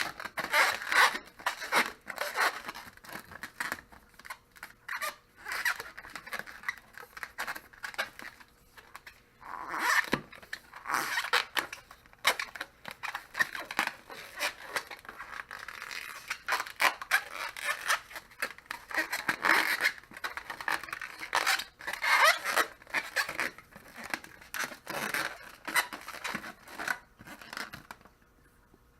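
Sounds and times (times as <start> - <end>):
scraping and rubbing with clicks: 0.0 - 28.2.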